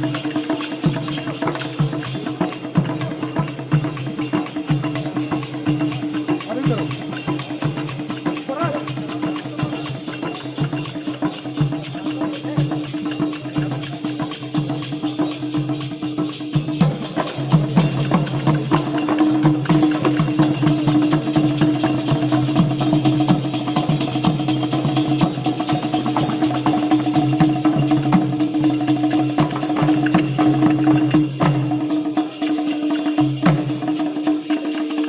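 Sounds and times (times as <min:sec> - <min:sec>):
fast dense percussion: 0:00.0 - 0:35.0
jingles: 0:00.0 - 0:35.0.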